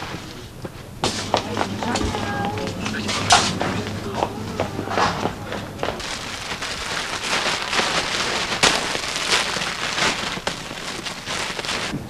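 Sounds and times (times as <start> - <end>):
plastic bags crinkling: 1.2 - 12.0.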